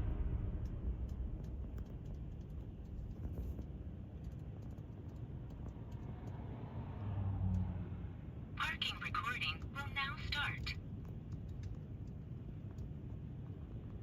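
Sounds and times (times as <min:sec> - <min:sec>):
vehicle rumble: 0:00.0 - 0:14.0
faint clicks and ticks: 0:00.4 - 0:06.5, 0:08.8 - 0:14.0.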